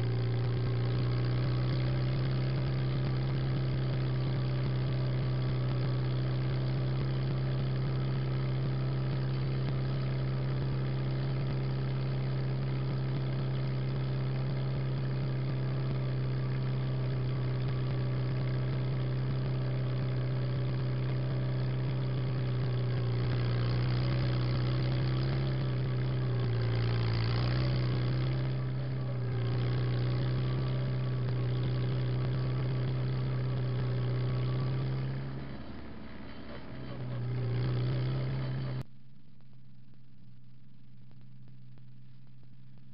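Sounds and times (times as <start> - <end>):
tractor engine running: 0.0 - 39.5.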